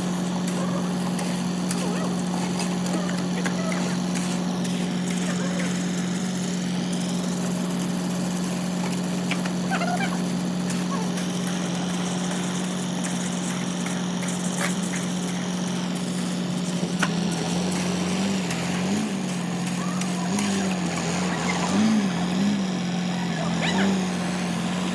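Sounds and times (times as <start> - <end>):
machine motor humming: 0.0 - 24.9.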